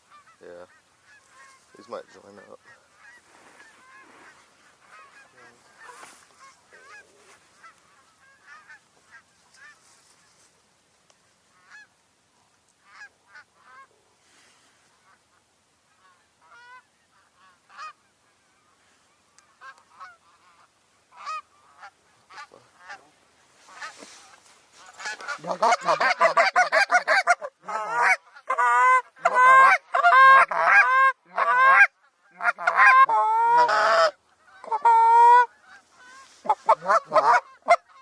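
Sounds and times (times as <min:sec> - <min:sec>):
geese honking: 0:00.0 - 0:10.4, 0:11.5 - 0:11.9, 0:12.9 - 0:13.9, 0:15.9 - 0:38.0.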